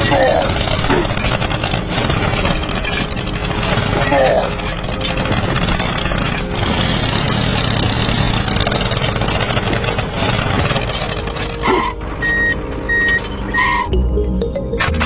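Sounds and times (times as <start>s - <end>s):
construction vehicle engine running: 0.0s - 15.0s.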